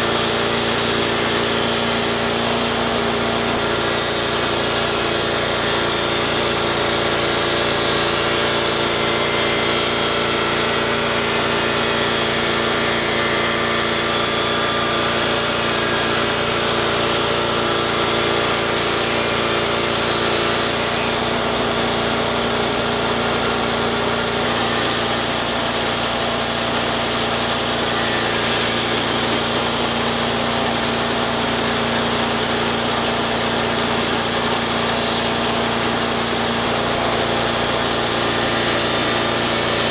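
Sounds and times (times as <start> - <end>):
bandsaw mill cutting log: 0.0 - 39.9.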